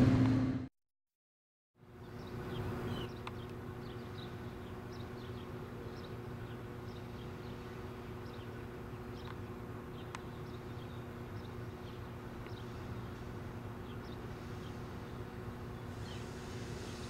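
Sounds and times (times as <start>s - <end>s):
train hum: 0.0s - 0.7s, 2.3s - 17.0s
birds chirping: 2.0s - 17.0s.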